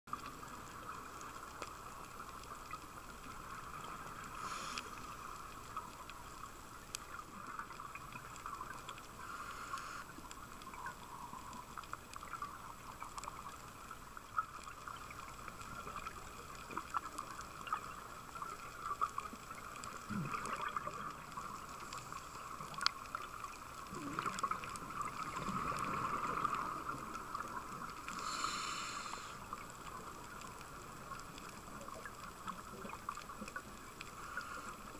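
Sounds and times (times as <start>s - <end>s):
underwater noise wash: 0.1s - 34.9s
sharp crackling clicks: 0.2s - 34.9s.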